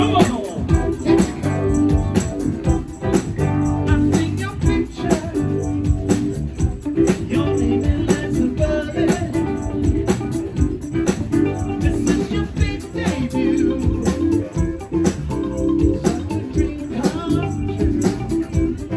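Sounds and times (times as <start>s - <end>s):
person singing: 0.0s - 6.1s, 7.0s - 10.4s, 11.8s - 14.9s, 16.0s - 18.9s
drum beat: 0.0s - 18.9s
guitar: 0.0s - 18.9s.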